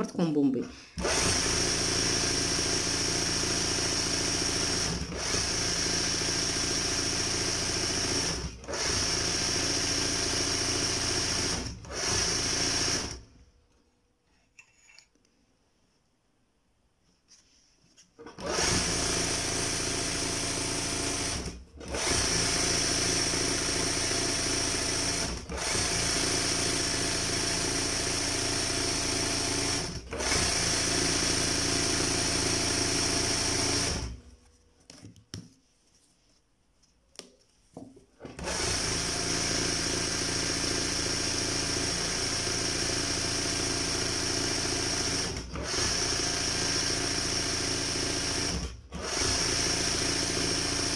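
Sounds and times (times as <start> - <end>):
sewing machine stitching: 0.6 - 13.3, 18.2 - 34.2, 38.2 - 50.9.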